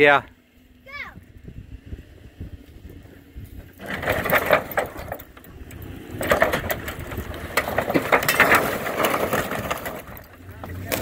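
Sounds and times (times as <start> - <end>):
low engine rumble: 0.0 - 11.0
trailer crunching and scraping: 1.7 - 11.0.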